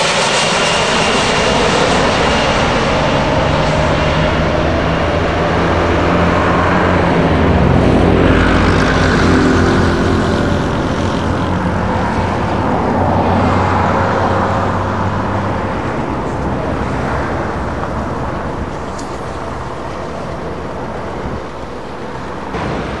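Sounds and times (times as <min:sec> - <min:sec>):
propeller aircraft engines passing low: 0:00.0 - 0:23.0.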